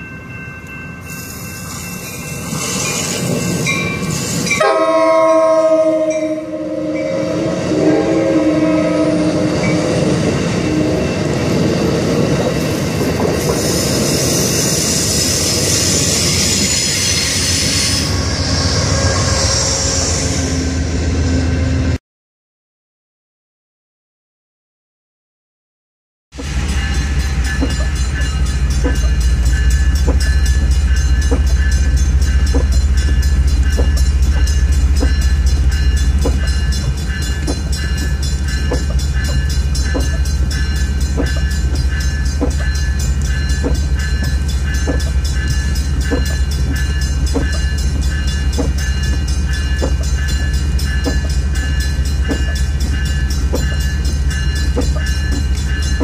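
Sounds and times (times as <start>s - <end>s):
train rumbling past: 0.0s - 22.0s, 26.3s - 56.0s.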